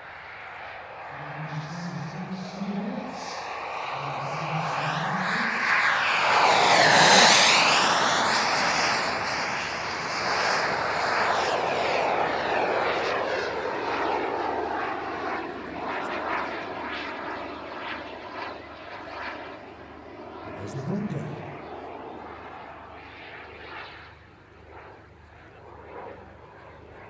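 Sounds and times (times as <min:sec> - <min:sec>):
jet turbine whine passing: 0:00.0 - 0:27.0.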